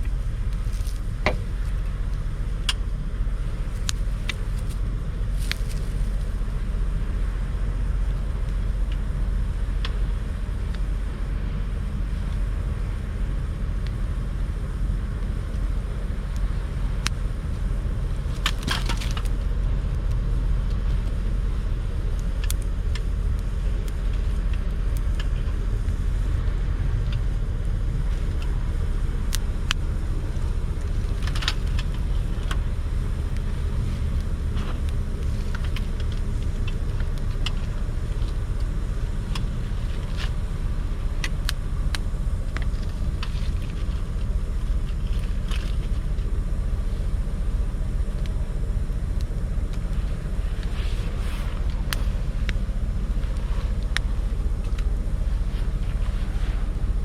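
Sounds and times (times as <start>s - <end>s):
campfire crackling and popping: 0.0s - 7.0s, 13.4s - 57.0s
low fire rumble: 0.0s - 57.0s.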